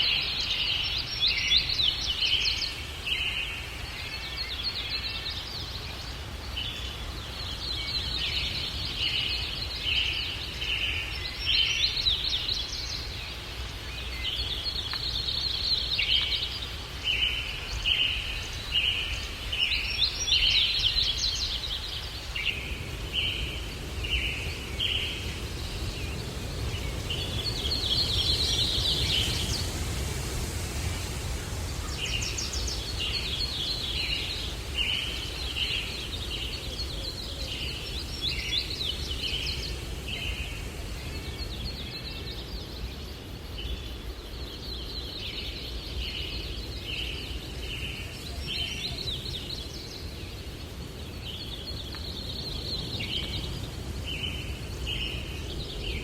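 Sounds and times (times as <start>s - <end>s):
low rumble of wind: 0.0s - 56.0s
songbirds singing: 0.0s - 56.0s.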